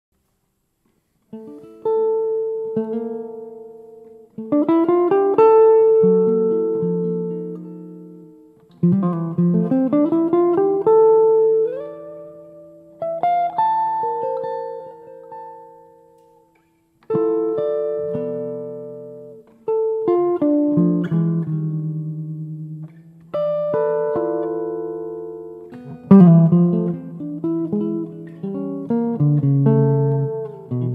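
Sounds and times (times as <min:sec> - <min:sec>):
jazz guitar chords: 0:01.3 - 0:30.9.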